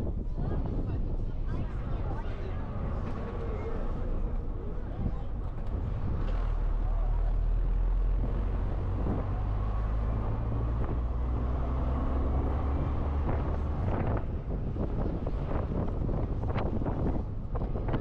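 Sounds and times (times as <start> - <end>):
heavy vehicle engine rumble: 0.0 - 18.0
wind on microphone: 0.0 - 18.0.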